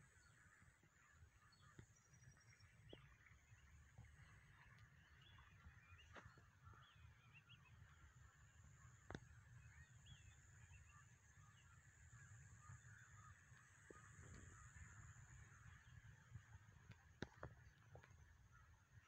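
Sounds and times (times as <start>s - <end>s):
distant bird chirps: 0.0s - 19.0s.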